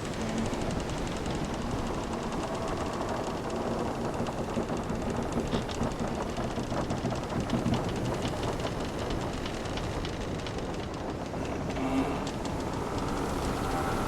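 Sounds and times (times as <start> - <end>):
wooden ship creaking: 0.0 - 14.0.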